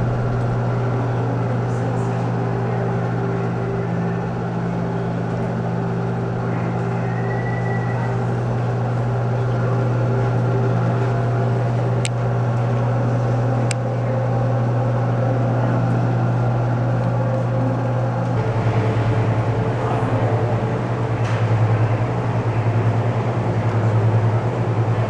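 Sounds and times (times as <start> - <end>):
low hum turning to pulsing throb: 0.0 - 25.0.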